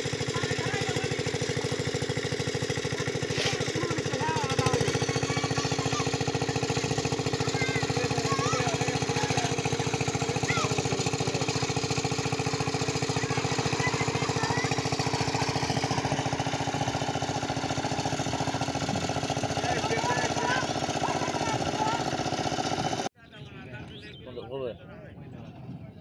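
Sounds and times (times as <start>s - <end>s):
small engine chugging: 0.0s - 23.1s.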